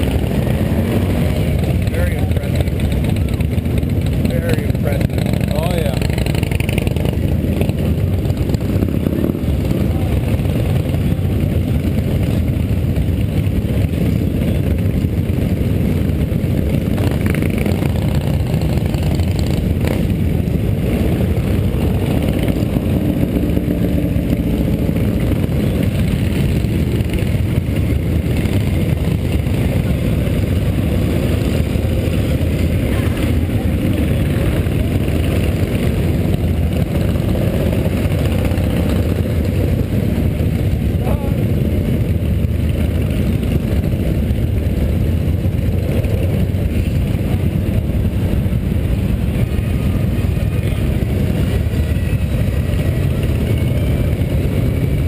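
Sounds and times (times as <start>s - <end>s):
motorcycle engines rumbling: 0.0s - 55.0s
motorcycles revving: 0.0s - 55.0s.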